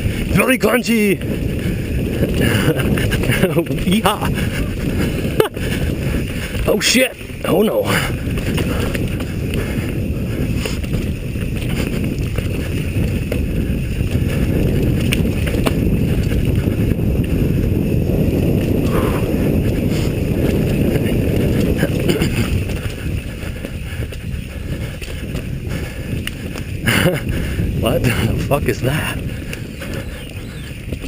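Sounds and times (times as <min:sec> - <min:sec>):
mountain bike rumble and rattle: 0:00.0 - 0:31.0
wind buffeting microphone: 0:00.0 - 0:31.0.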